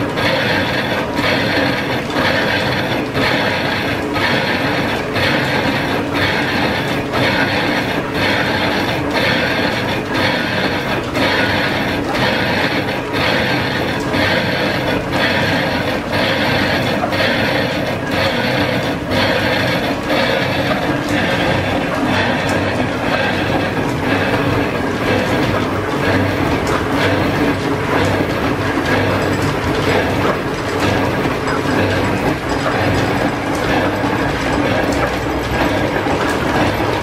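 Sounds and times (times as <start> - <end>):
metal lathe cutting metal: 0.0 - 37.0.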